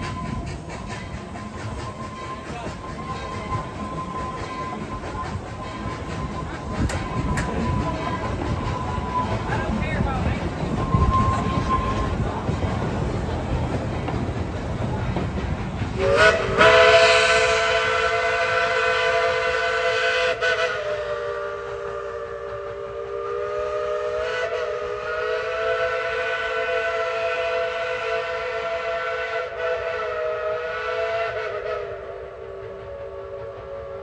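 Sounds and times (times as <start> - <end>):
steam locomotive whistle chord: 0.0 - 9.8, 16.0 - 34.0
train running rumble: 0.0 - 34.0.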